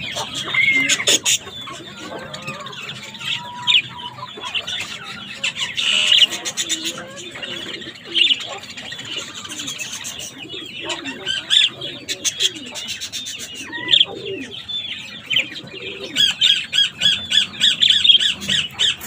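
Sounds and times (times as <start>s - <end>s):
budgerigars chirping and squawking: 0.0s - 19.0s
chicks begging calls: 0.0s - 19.0s.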